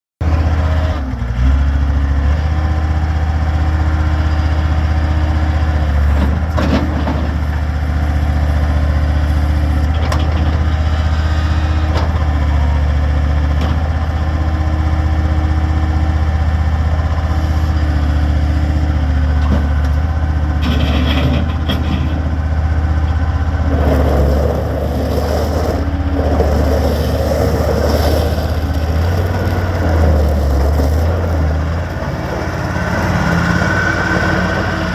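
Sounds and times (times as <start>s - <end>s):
diesel engine droning: 0.2s - 34.9s.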